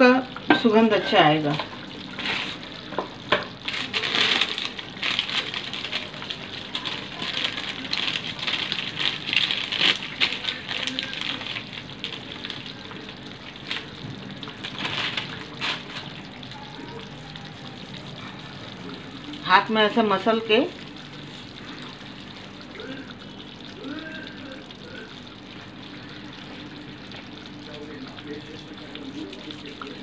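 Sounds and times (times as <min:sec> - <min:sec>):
curry sizzling in a pan: 0:00.0 - 0:30.0.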